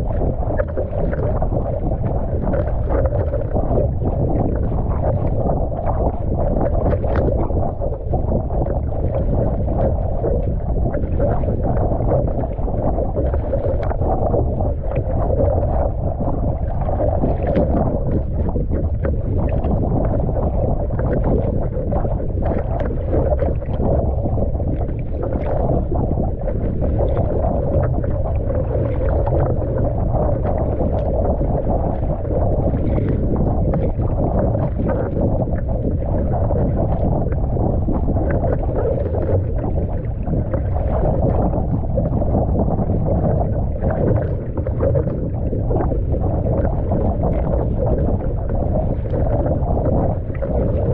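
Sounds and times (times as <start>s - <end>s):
water slapping along hull: 0.0s - 50.9s
wind rumble on microphone: 0.0s - 50.9s.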